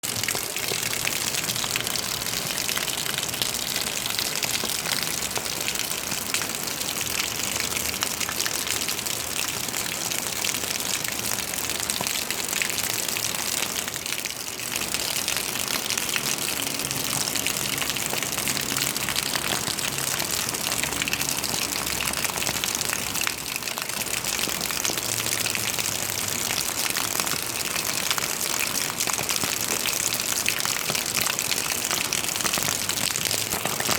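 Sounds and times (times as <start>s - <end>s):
water rushing and splashing: 0.1s - 33.9s.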